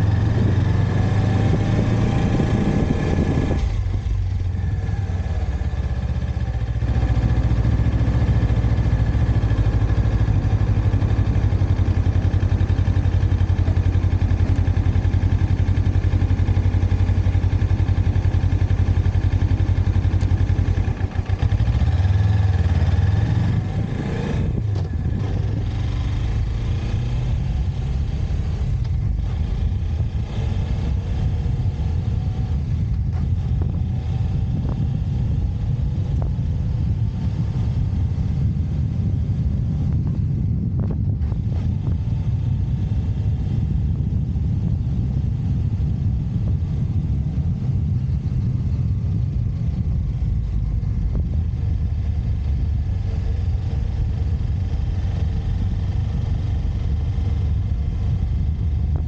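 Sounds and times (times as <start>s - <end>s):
motorcycle engine running: 0.0s - 59.0s
road and wind noise: 0.0s - 59.0s.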